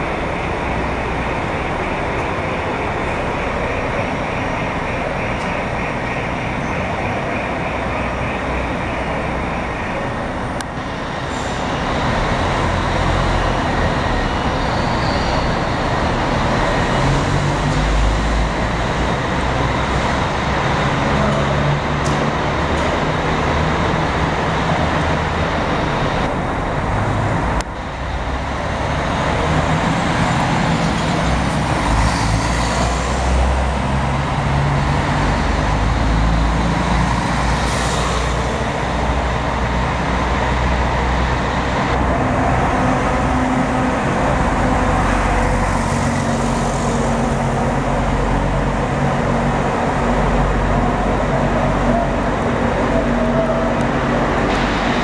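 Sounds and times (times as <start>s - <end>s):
diesel bus engine running: 0.0s - 55.0s.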